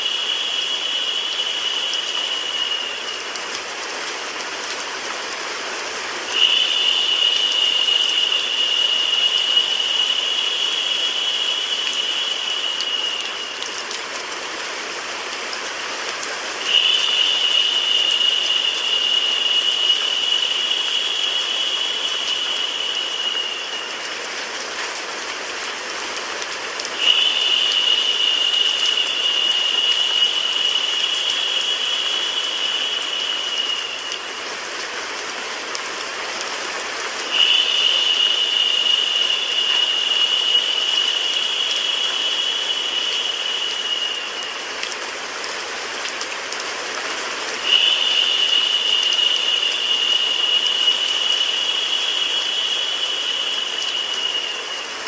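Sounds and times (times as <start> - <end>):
high hiss: 0.0 - 25.5, 26.2 - 35.6, 36.2 - 46.0, 47.1 - 55.0
rain: 0.0 - 55.0.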